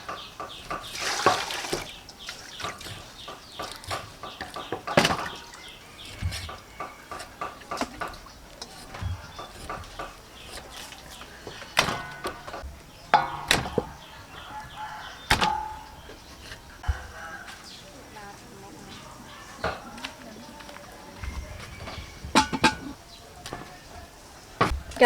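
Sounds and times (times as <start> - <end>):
utensils and dishes clattering: 0.0 - 17.2, 21.2 - 25.0
chickens calling: 0.0 - 25.0
small birds calling: 0.0 - 25.0.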